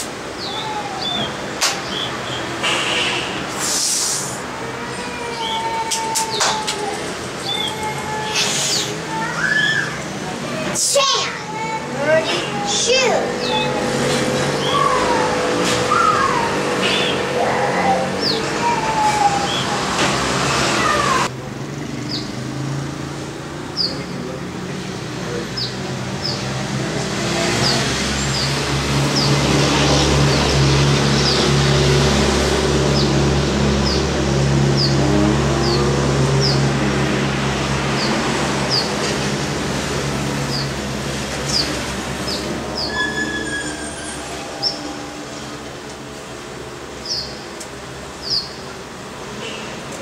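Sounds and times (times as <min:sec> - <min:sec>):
city traffic hum: 0:00.0 - 0:50.0.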